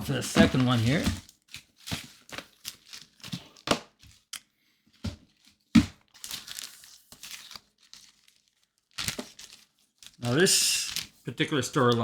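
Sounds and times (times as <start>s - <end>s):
plastic packaging crinkling: 0.0s - 4.3s, 4.9s - 12.0s.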